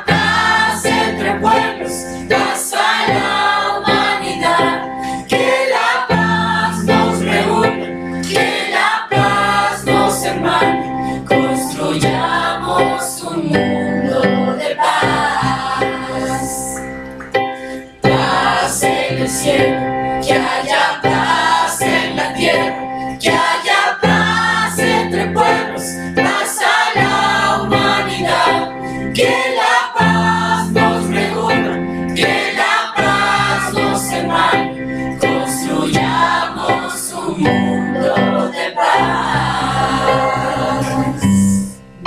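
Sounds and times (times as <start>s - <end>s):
group of teenagers singing: 0.0s - 16.9s, 17.6s - 41.8s
electronic keyboard chords: 0.0s - 42.0s.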